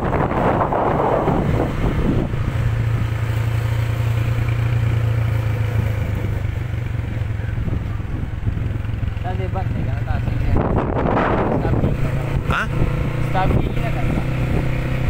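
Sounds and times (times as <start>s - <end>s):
road and wind noise: 0.0s - 15.0s
vehicle engine humming: 0.0s - 15.0s.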